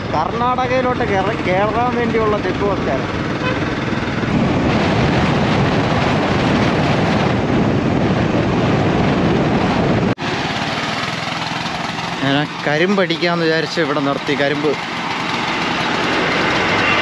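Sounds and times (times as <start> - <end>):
vehicle engine running: 0.0 - 8.2, 9.1 - 17.0
road and wind noise: 0.0 - 17.0
steady engine hum: 0.0 - 17.0.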